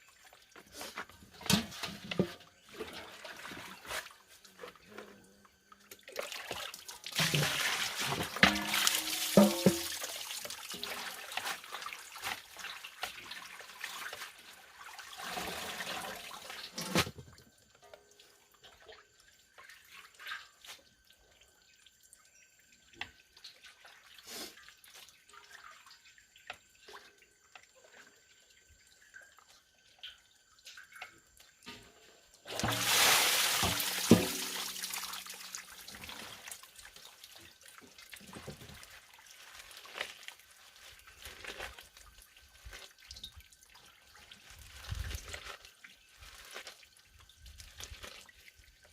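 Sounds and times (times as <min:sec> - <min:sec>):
water splashing and pouring: 0:00.0 - 0:17.5, 0:22.8 - 0:48.9
water dripping: 0:05.5 - 0:15.1, 0:17.3 - 0:48.9.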